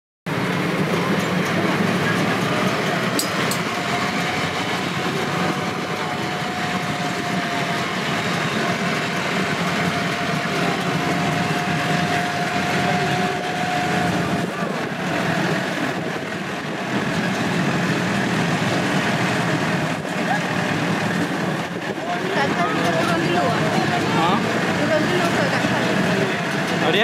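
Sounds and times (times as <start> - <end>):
thin steady whine: 0.3 - 27.0
tram engine and rolling rumble: 0.3 - 27.0.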